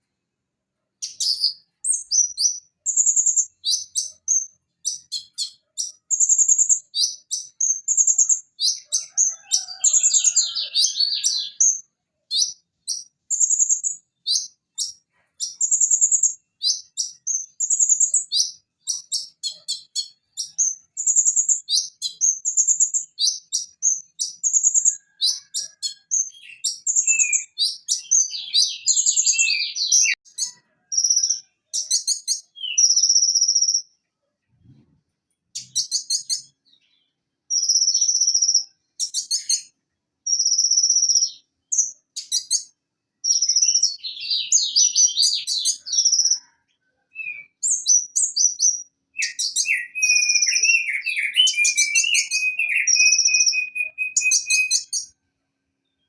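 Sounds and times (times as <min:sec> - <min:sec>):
bird chirping and trilling: 0:01.0 - 0:34.0, 0:35.6 - 0:39.7, 0:40.3 - 0:46.5, 0:47.1 - 0:55.2.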